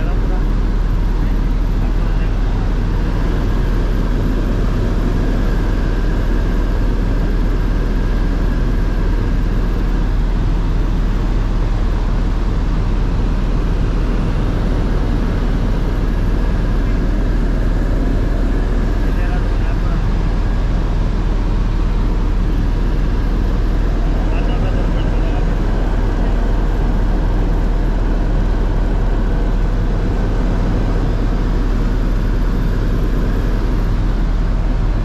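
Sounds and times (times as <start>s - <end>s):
faint steady whine: 0.0s - 35.0s
helicopter rotor and engine drone: 0.0s - 35.0s.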